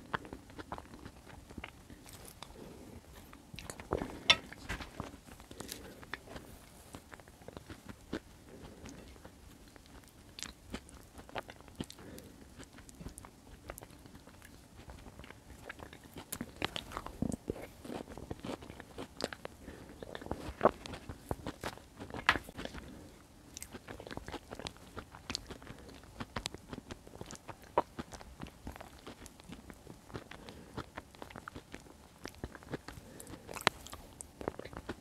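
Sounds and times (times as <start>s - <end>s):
close chewing: 0.0s - 35.0s.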